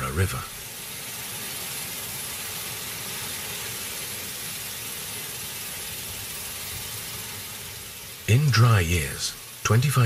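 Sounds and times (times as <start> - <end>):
water spraying from sprinklers: 0.0 - 10.0.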